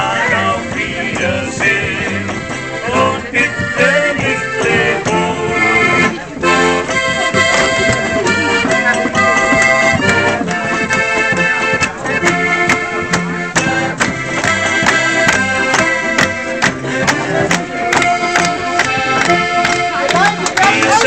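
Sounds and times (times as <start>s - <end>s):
button accordion playing: 0.0s - 21.0s
strummed acoustic guitar: 0.0s - 21.0s.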